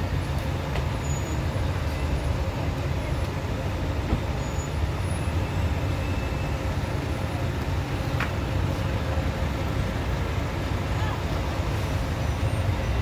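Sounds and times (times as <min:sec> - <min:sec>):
vehicle engines idling rumble: 0:00.0 - 0:13.0.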